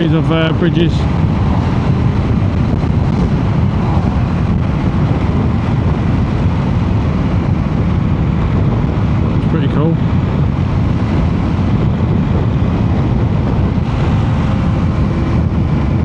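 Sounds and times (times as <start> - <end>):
motorcycle road noise: 0.0 - 16.0
wind buffeting microphone: 0.0 - 16.0.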